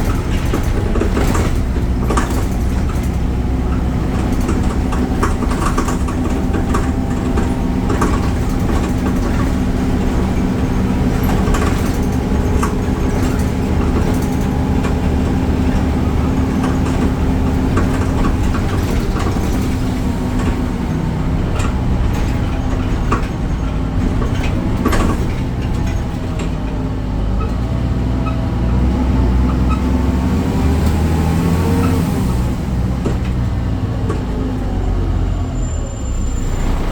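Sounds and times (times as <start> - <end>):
rattles and knocks: 0.0 - 28.9, 30.7 - 34.7
bus diesel engine hum: 0.0 - 36.9.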